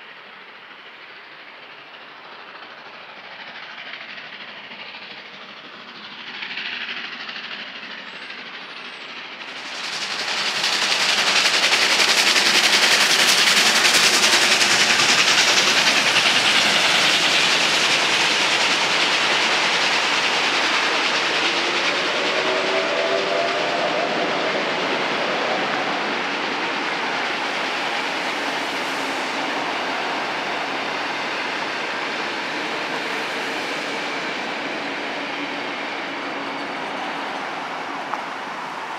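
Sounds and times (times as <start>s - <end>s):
steam train passing: 0.0s - 38.9s.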